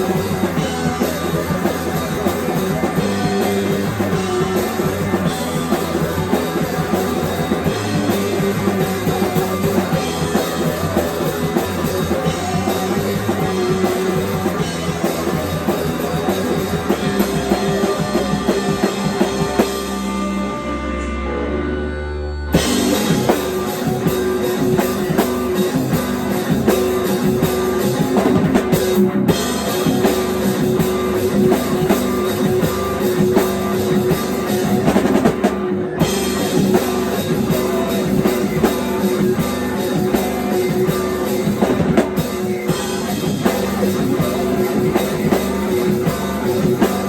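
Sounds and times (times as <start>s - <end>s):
rock music with drums and guitar: 0.0s - 47.0s.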